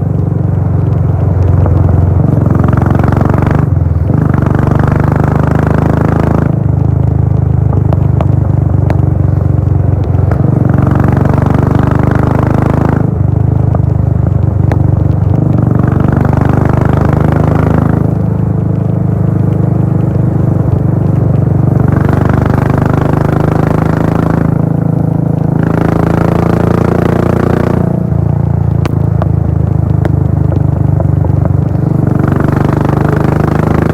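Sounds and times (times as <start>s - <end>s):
motorcycle engine running loud: 0.0s - 33.9s.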